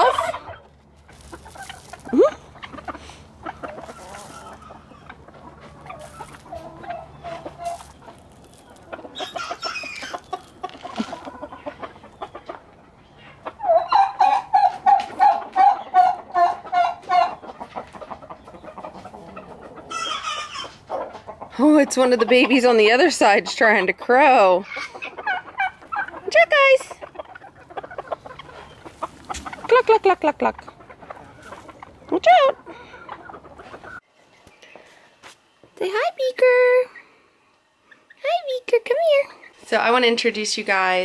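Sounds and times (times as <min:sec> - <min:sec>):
chickens clucking: 0:00.0 - 0:38.2.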